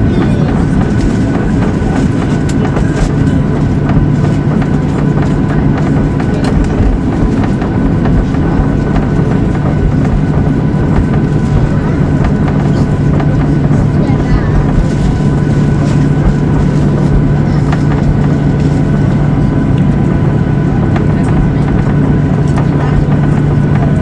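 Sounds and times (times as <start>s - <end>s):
jet engines droning: 0.0s - 24.0s.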